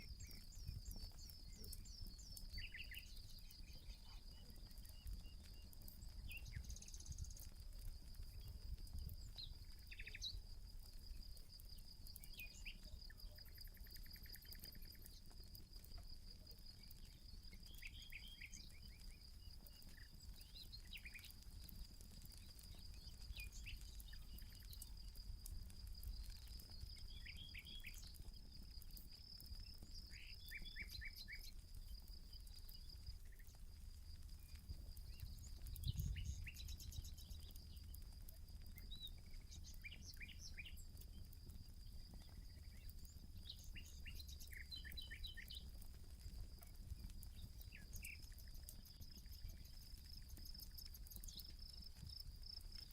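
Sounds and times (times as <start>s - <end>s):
campfire crackling: 0.0s - 52.9s
insect trill: 6.4s - 52.9s.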